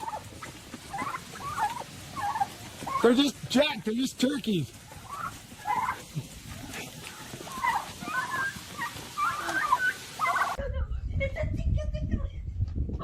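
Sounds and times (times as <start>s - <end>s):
turkeys gobbling: 0.0s - 10.6s.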